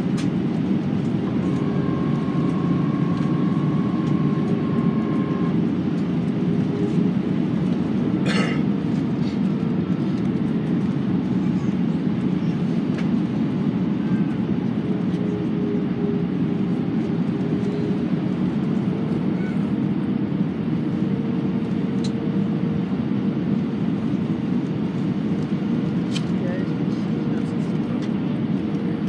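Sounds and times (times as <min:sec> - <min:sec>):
jet engine and airflow rumble: 0:00.0 - 0:29.0.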